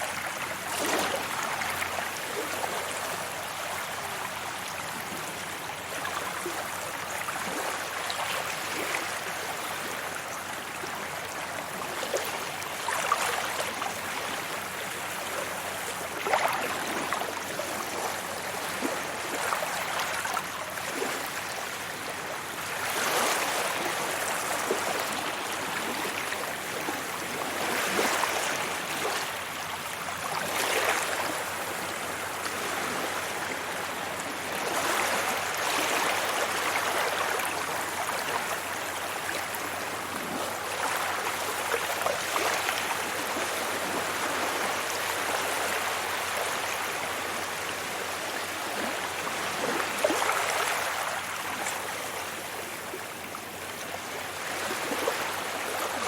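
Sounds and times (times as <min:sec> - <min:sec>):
sea waves breaking on beach: 0:11.0 - 0:56.0.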